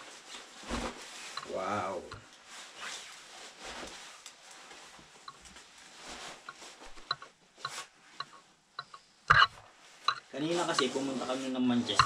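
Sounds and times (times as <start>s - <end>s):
jacket fabric rustling: 0.0s - 8.7s, 9.4s - 12.0s.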